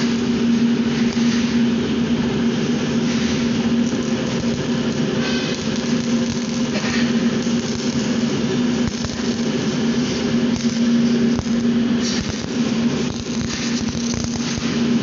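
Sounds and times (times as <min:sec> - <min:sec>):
constant hum: 0:00.0 - 0:15.0
welding arc crackling: 0:00.0 - 0:15.0.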